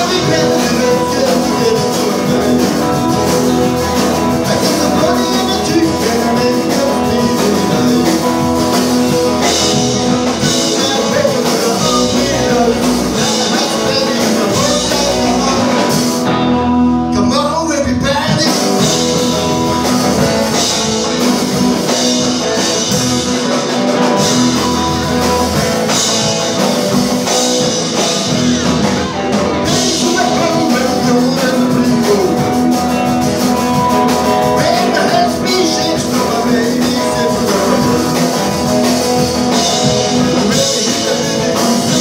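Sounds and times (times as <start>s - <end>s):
live rock and roll band: 0.0s - 42.0s.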